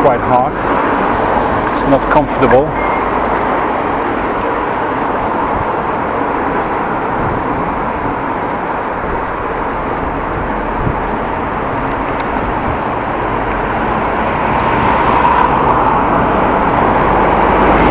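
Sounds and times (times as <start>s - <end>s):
bicycle road noise: 0.0s - 17.9s
rushing wind: 0.0s - 17.9s.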